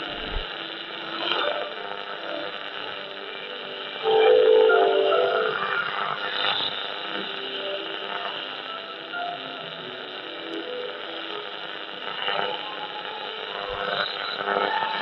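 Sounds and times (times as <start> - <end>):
faint radio broadcast audio: 0.0 - 15.0
radio static hiss and hum: 0.0 - 15.0.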